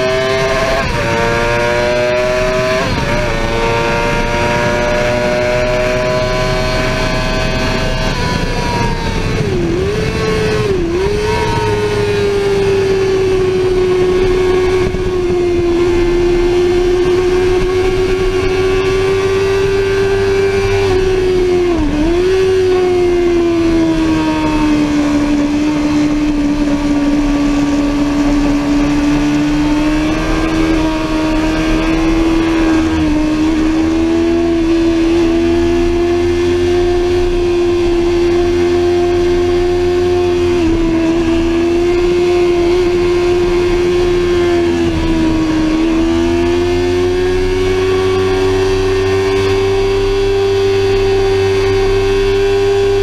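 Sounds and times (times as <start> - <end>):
motorcycle engine at high revs: 0.0 - 53.0
low rushing noise: 2.0 - 49.1.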